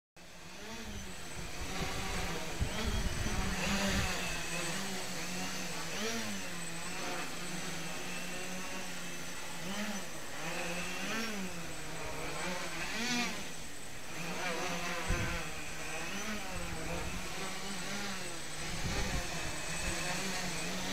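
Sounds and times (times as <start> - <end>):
quadcopter motors humming: 0.2 - 20.9.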